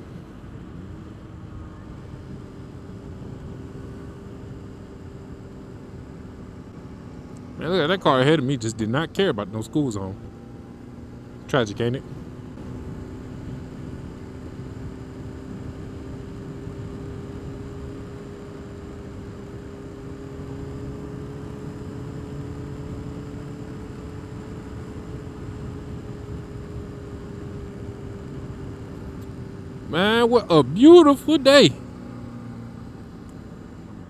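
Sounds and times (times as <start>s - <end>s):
motorcycle engine droning: 0.0s - 34.0s
wind and road noise: 0.0s - 34.0s.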